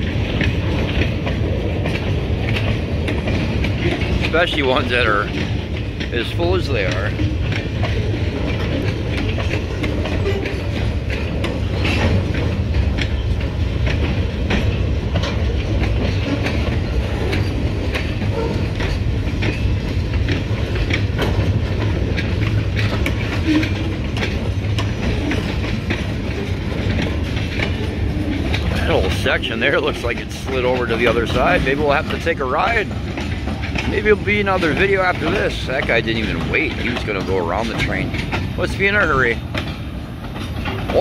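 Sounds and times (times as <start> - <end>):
rumble of train wheels on rail: 0.0 - 41.0
wheels clacking over rail joints: 0.0 - 41.0.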